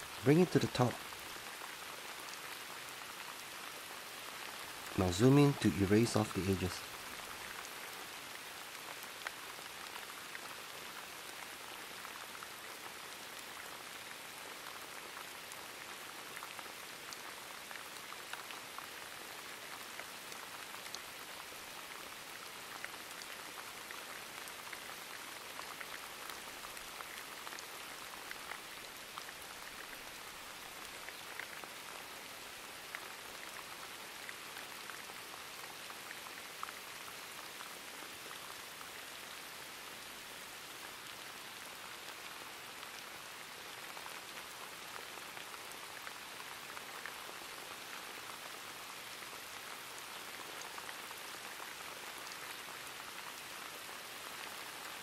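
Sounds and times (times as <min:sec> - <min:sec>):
steady rain patter: 0:00.0 - 0:55.0.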